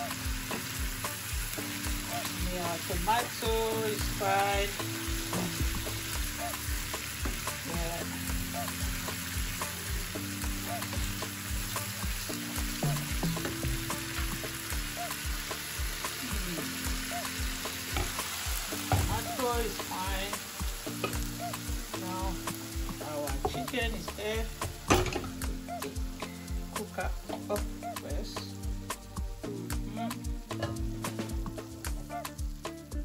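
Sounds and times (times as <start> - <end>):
afrobeat background music: 0.0 - 33.0
food sizzling in a pan: 0.0 - 33.0.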